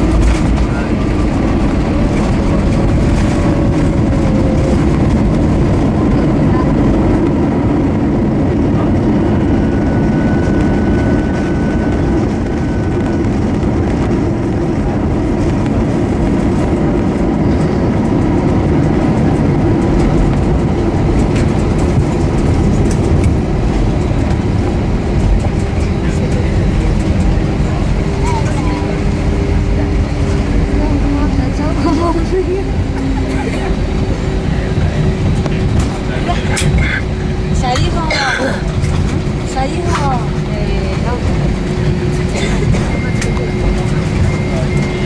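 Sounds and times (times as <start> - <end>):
aircraft cabin rumble on landing: 0.0 - 45.0.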